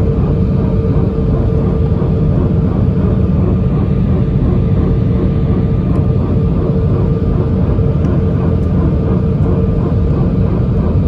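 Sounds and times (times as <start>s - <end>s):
constant hum: 0.0s - 11.0s
jet engines and airflow rumble: 0.0s - 11.0s.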